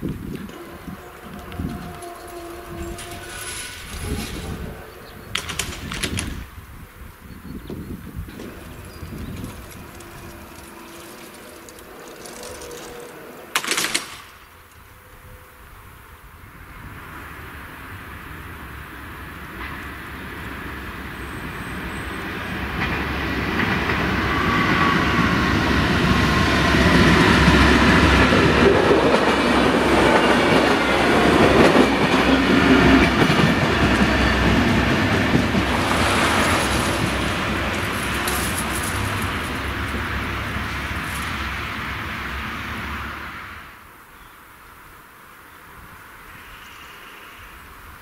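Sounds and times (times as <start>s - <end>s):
train wheels on rails: 0.0s - 6.6s, 8.1s - 14.4s, 18.1s - 43.8s
diesel railcar engine: 0.0s - 14.3s, 16.3s - 44.0s.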